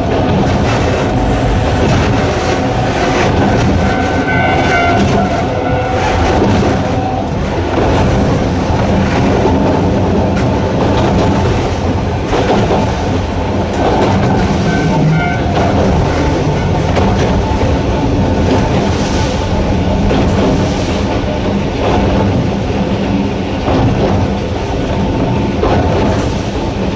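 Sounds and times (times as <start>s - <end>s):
train motor hum: 0.0s - 26.9s
train running noise: 0.0s - 26.9s
wheels knocking on rails: 0.0s - 26.9s.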